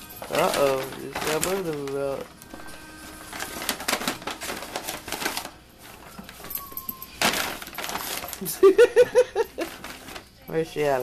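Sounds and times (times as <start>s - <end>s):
paper bag crinkling: 0.0s - 11.0s.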